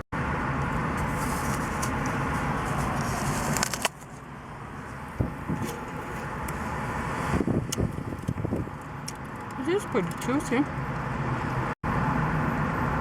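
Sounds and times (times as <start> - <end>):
passing car traffic: 0.2 - 13.0.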